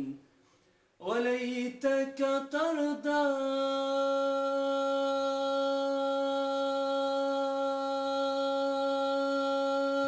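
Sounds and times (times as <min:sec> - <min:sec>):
man singing a long note: 0:01.0 - 0:10.0.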